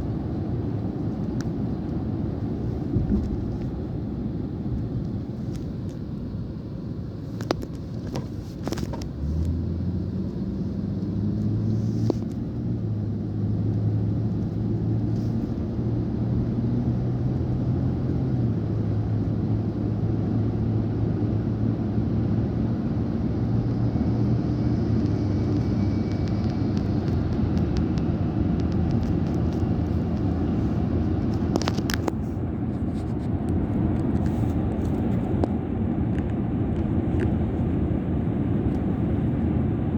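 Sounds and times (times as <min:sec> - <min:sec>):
engine hum: 0:00.0 - 0:39.9
vehicle road rumble: 0:00.0 - 0:39.9.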